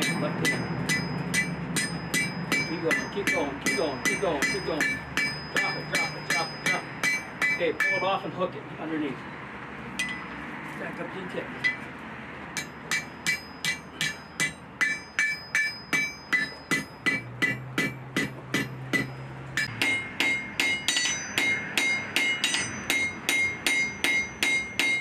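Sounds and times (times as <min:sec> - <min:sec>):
hammer forging steel on anvil: 0:00.0 - 0:08.2, 0:10.0 - 0:10.4, 0:12.5 - 0:25.0.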